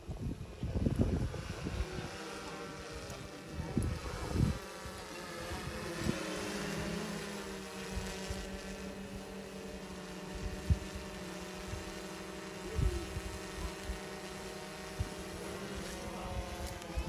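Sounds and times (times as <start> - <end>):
steady motor drone: 0.0 - 17.0.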